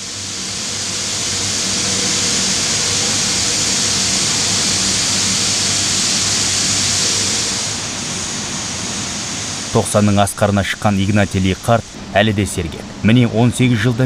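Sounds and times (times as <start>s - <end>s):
molten metal hissing rush: 0.0s - 14.0s.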